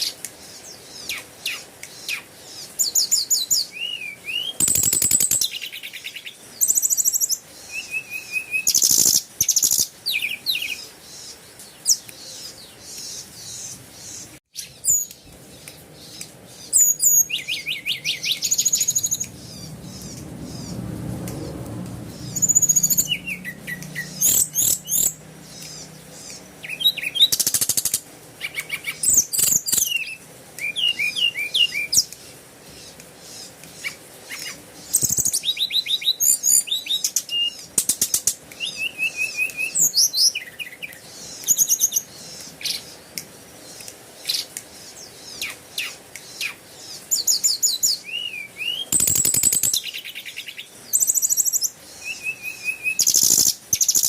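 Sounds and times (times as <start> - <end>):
small birds chirping and singing: 0.0 - 54.0.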